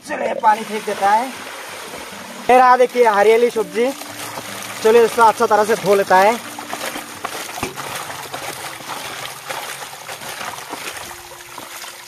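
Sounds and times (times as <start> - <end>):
water pouring into a tub: 0.4 - 12.0
hands swishing leafy greens in water: 0.6 - 12.0.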